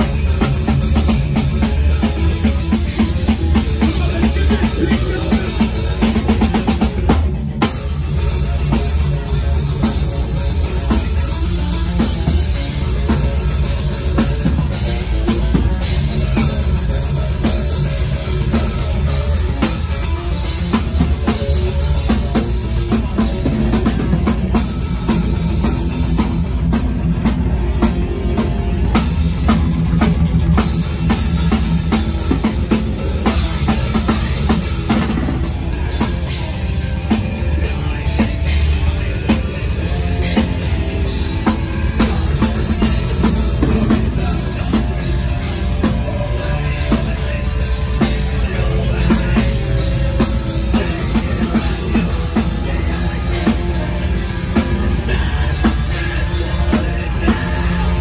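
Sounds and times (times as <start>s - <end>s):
death metal band playing live: 0.0s - 58.0s
rapid drum kit: 0.0s - 58.0s.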